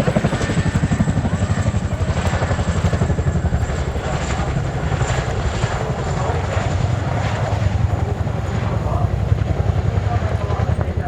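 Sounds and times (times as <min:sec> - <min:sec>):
helicopter rotors beating: 0:00.0 - 0:11.0.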